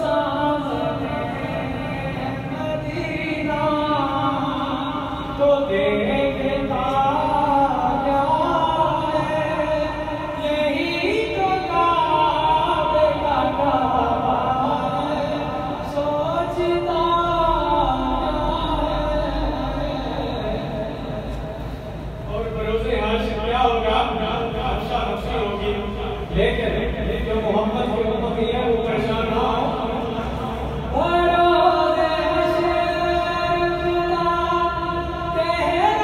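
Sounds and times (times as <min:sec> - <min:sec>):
man singing unaccompanied: 0:00.0 - 0:21.2, 0:22.3 - 0:36.0.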